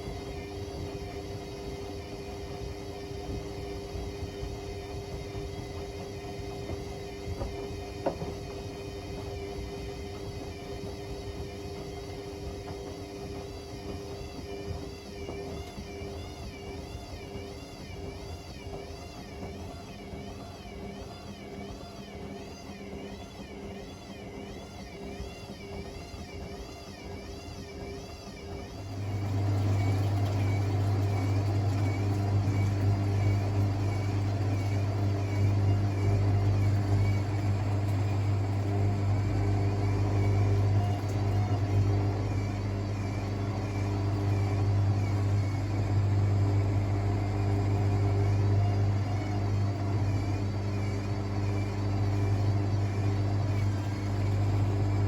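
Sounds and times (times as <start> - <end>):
washing machine whine: 0.0 - 55.0.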